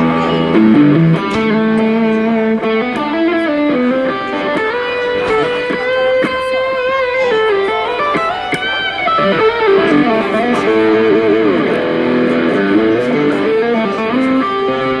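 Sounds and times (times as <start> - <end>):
electric guitar melody: 0.0 - 15.0.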